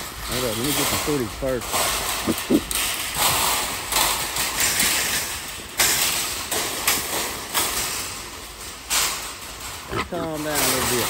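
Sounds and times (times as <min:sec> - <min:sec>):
rough rattling din: 0:00.0 - 0:11.0
wild hogs rushing about: 0:00.2 - 0:11.0.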